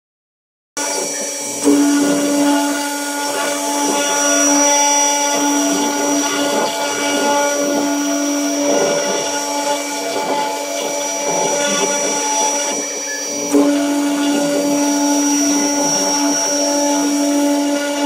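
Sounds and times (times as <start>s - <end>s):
engraving machine motor whine: 0.8s - 18.0s
low hum: 0.8s - 18.0s.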